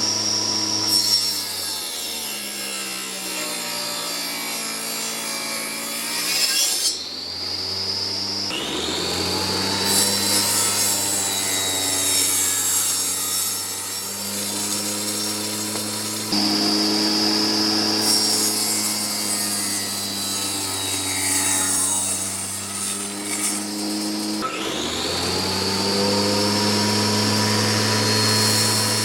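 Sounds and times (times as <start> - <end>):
power tool cutting wood: 0.0 - 29.0.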